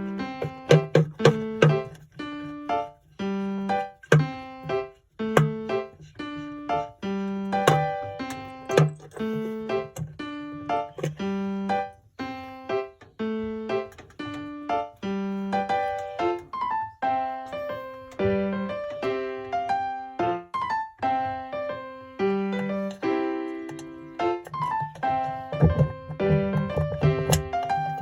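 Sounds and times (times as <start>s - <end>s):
piano melody: 0.0s - 28.0s.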